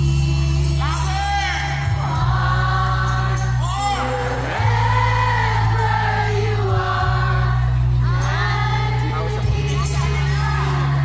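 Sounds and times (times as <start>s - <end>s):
backing music with heavy bass: 0.0s - 11.0s.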